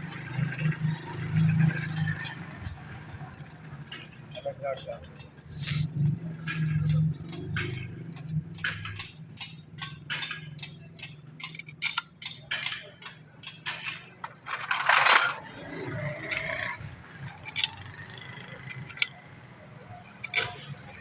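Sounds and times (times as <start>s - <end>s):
metal tools clinking and tapping: 1.0s - 5.6s, 6.4s - 21.0s.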